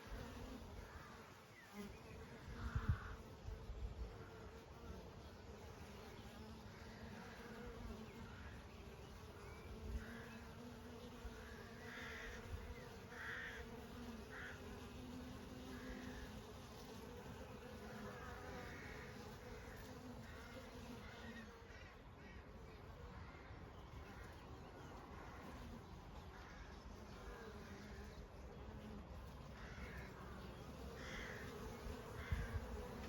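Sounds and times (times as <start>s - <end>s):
honey bees buzzing: 0.0s - 33.0s.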